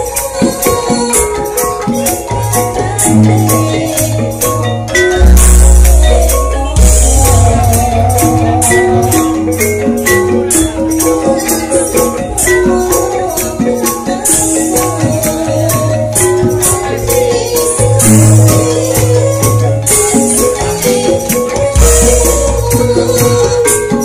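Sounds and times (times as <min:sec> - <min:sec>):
gamelan ensemble playing: 0:00.0 - 0:24.0.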